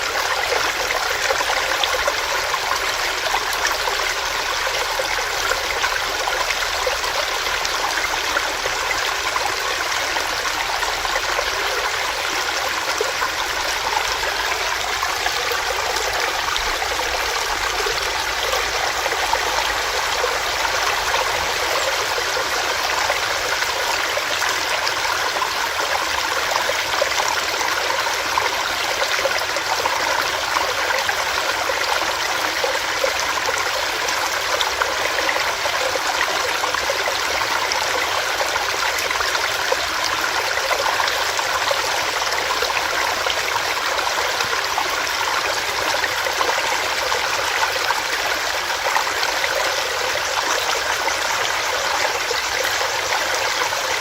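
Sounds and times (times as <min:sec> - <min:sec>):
stream splashing over stones: 0:00.0 - 0:54.0.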